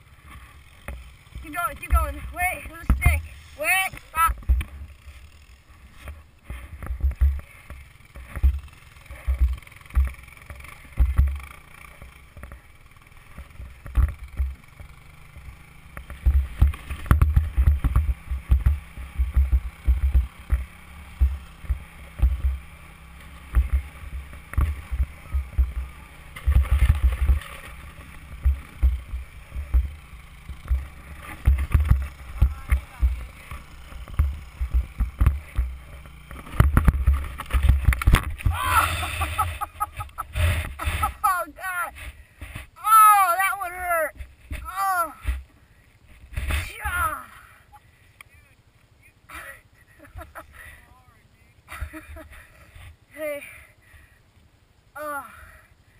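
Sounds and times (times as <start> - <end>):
faint engine hum: 0.0 - 42.9, 43.9 - 55.9.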